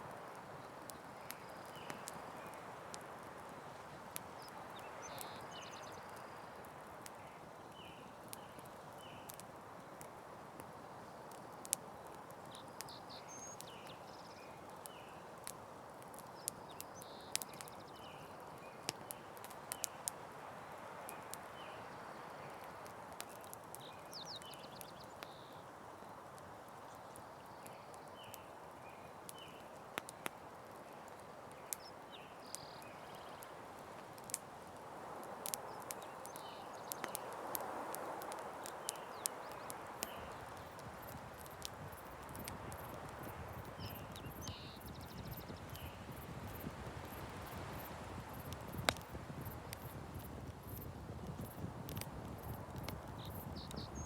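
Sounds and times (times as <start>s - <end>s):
campfire crackling: 0.1s - 54.0s.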